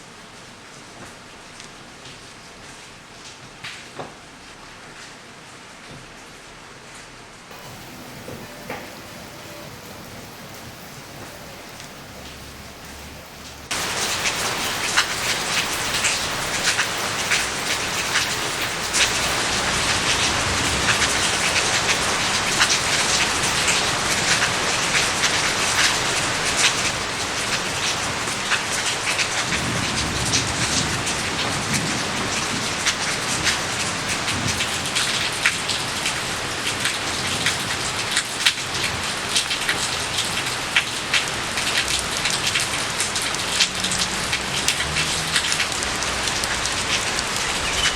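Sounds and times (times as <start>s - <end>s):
rain ticking on hard surfaces: 0.0s - 47.9s.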